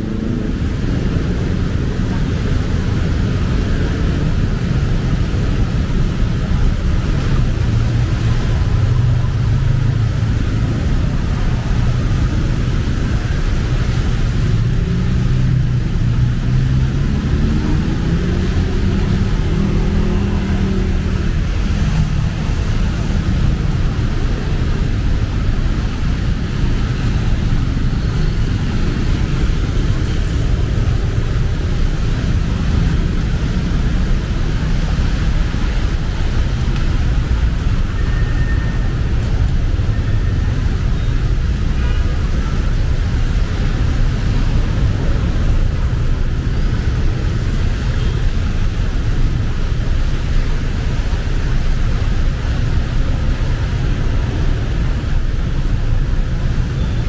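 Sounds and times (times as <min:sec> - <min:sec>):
steady low traffic rumble: 0:00.0 - 0:57.0
vehicles passing: 0:00.0 - 0:57.0.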